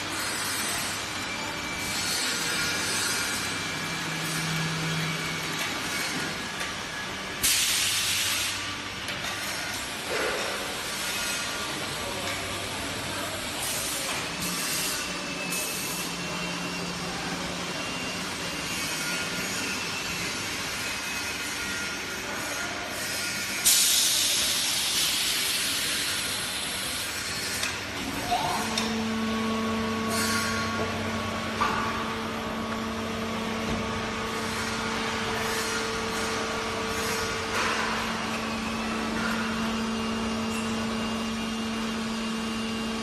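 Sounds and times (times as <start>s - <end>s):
machine mechanical hum: 0.0s - 43.0s.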